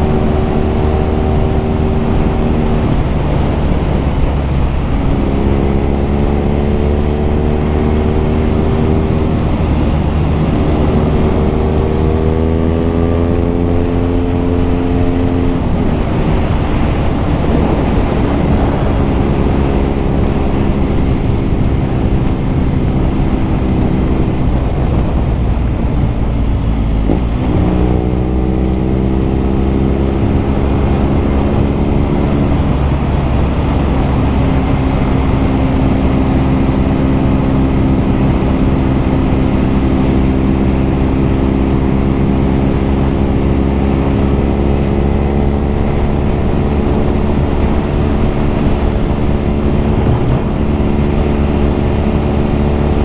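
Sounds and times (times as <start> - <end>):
motorcycle exhaust note: 0.0 - 53.0.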